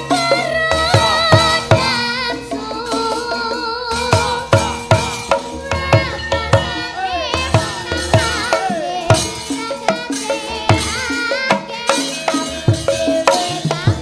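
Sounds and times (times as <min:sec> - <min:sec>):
girl singing with vibrato: 0:00.0 - 0:14.0
ringing metallophone tones: 0:00.0 - 0:14.0
sharp drum strokes: 0:00.0 - 0:14.0.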